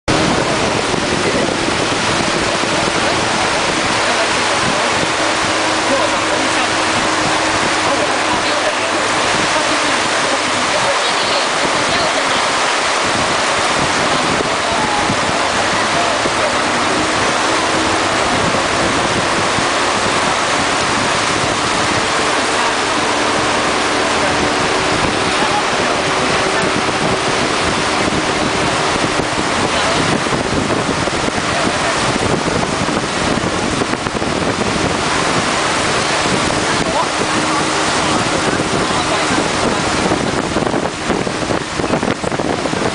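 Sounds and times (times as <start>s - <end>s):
heavy rain: 0.0s - 42.9s
water washing along boat hull: 0.0s - 42.9s
wind on microphone: 0.1s - 42.9s.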